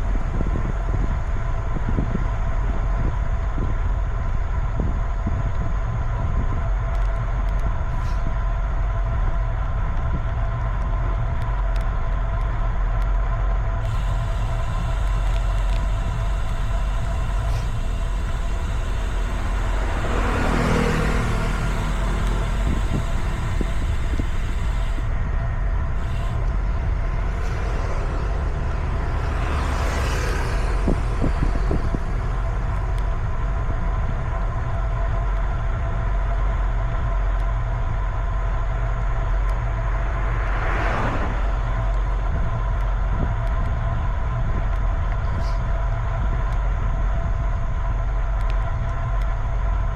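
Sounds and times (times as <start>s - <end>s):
steady low rumble: 0.0s - 49.9s
road vehicles passing: 6.7s - 49.9s.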